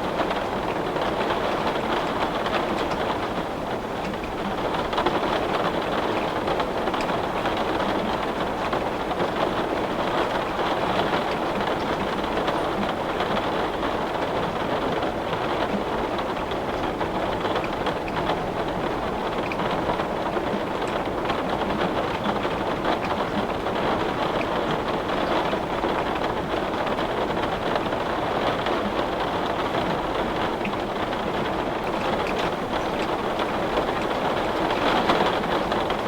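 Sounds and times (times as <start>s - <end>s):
heavy rain on window glass: 0.0s - 36.0s.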